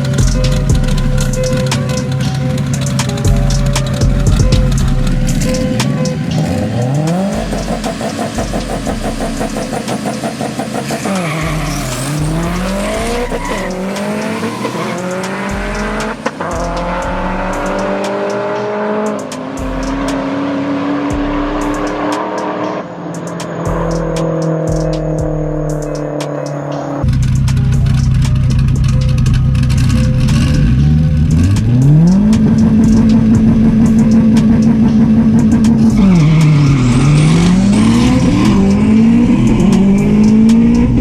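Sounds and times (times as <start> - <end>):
racing car engines accelerating: 0.0 - 41.0.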